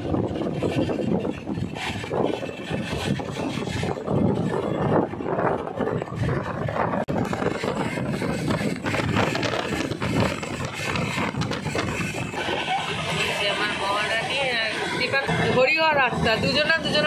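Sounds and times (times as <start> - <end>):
rattling and clatter: 0.0 - 15.3
train carriage rumbling: 0.0 - 17.0.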